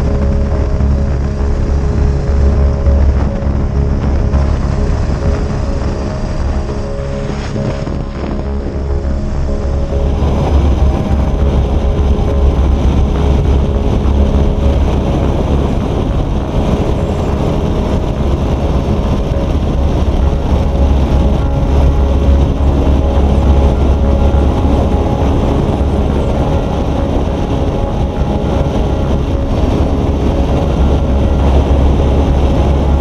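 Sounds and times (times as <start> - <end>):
motorcycle engine running: 0.0 - 33.0
wind and road noise rumble: 0.0 - 33.0.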